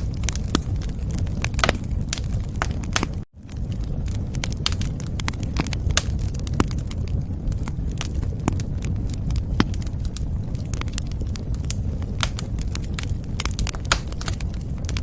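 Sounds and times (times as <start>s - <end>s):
low rumble of burning: 0.0s - 15.0s
wood fire popping and snapping: 0.0s - 15.0s.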